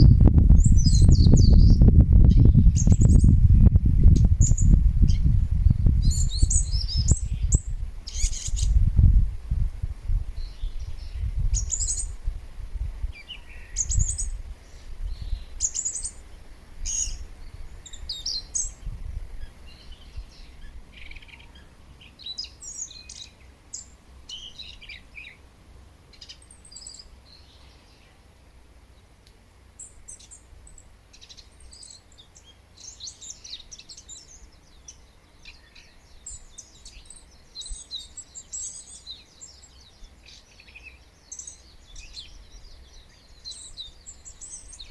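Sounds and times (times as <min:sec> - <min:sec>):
wild birds chirping: 0:00.0 - 0:09.0, 0:10.3 - 0:12.2, 0:13.0 - 0:44.9.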